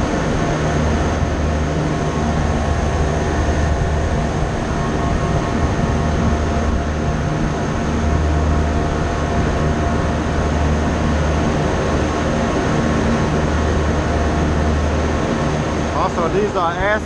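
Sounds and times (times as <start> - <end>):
machinery drone: 0.0 - 17.0.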